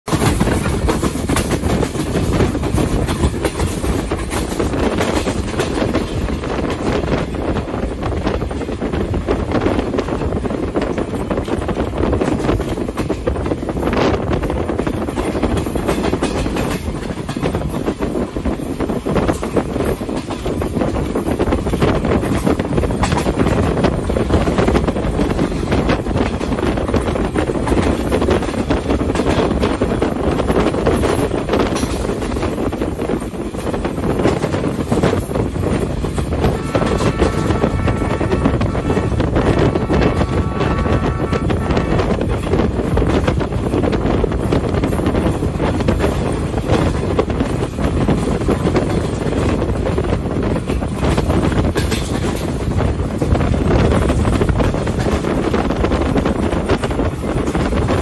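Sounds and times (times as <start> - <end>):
train rumbling along the track: 0.0 - 58.0
wind buffeting microphone: 0.0 - 58.0
wheels clattering over rails: 0.1 - 58.0.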